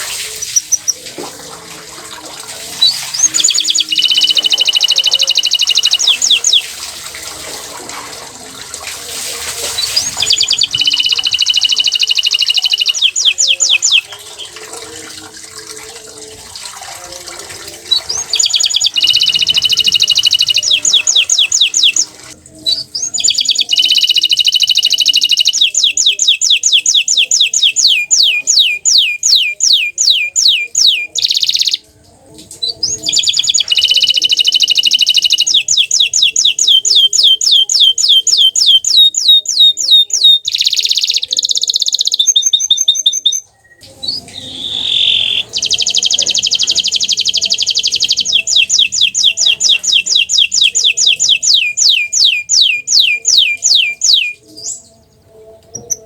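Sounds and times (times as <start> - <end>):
canary singing trills: 0.0 - 1.0, 2.8 - 6.7, 9.7 - 15.0, 17.8 - 31.9, 32.6 - 56.0.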